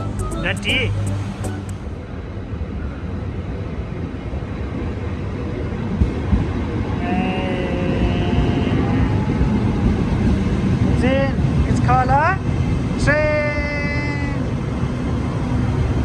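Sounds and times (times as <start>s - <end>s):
high whining train tones: 0.0s - 16.0s
train rumble: 0.0s - 16.0s.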